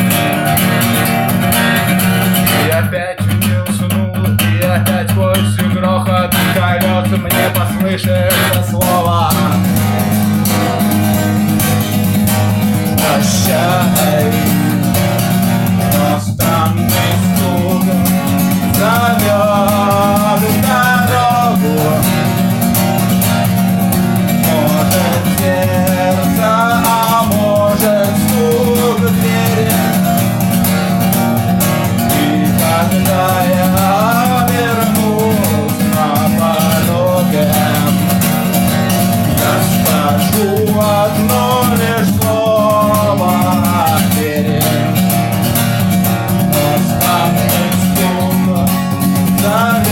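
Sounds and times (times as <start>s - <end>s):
guitar accompaniment: 0.0s - 49.9s.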